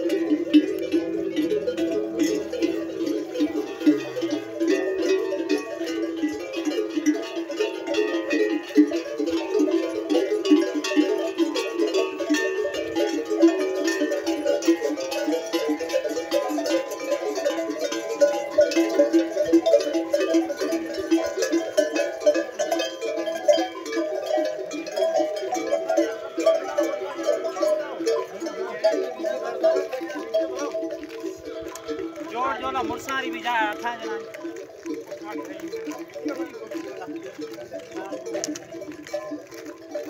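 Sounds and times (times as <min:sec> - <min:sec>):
metal neck bells clanking: 0:00.0 - 0:40.0.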